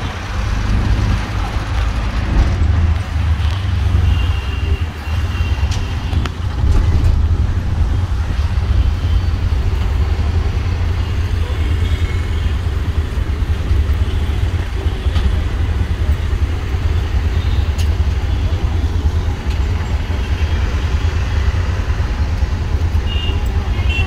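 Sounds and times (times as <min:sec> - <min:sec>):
idling traffic rumble: 0:00.0 - 0:24.0.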